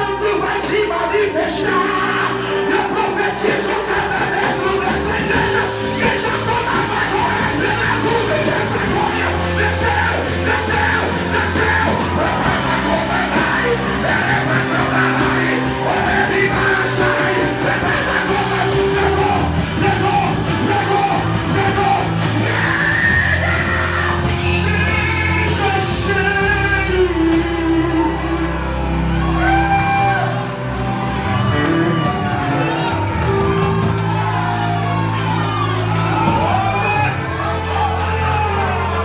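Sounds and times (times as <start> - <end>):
live worship band: 0.0 - 39.0
people singing and shouting: 0.0 - 39.0.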